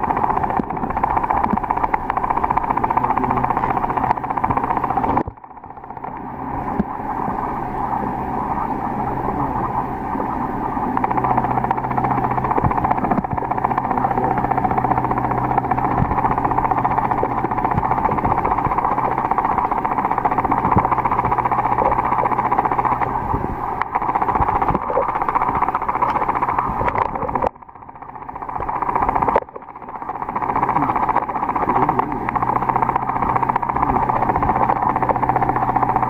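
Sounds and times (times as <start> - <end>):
faint clicks: 0.0 - 7.3, 10.2 - 36.0
low hum: 0.0 - 36.0.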